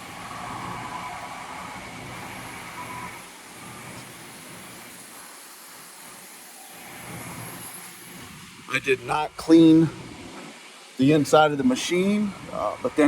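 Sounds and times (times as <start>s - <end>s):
faint high whine: 0.0s - 13.0s
machine shop hum: 0.0s - 13.0s.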